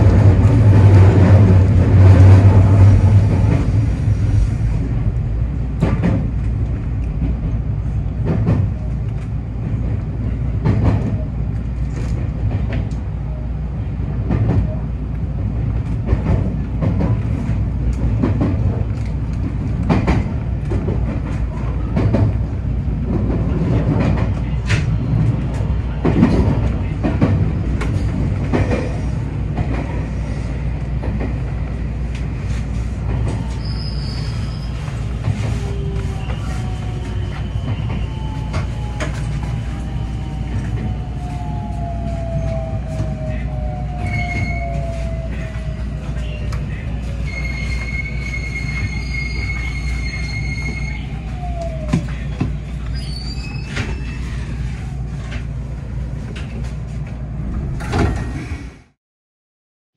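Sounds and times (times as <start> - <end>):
electric train rail noise: 0.0 - 58.9.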